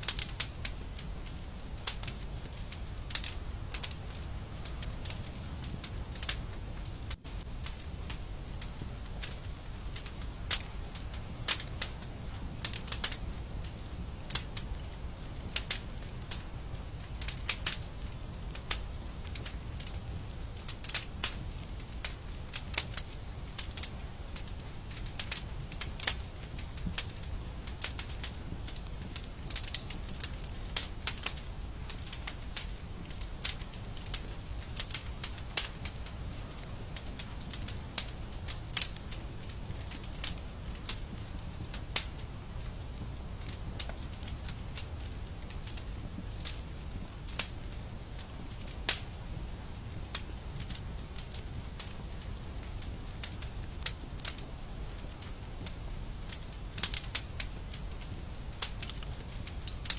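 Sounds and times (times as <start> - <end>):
steady low rumble: 0.0 - 59.9
wood fire crackling: 0.0 - 59.9.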